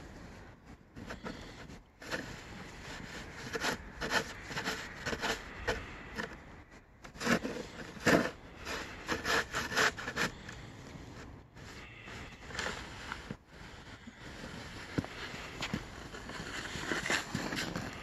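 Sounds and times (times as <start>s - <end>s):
snow shovel scraping snow: 0.0s - 18.0s.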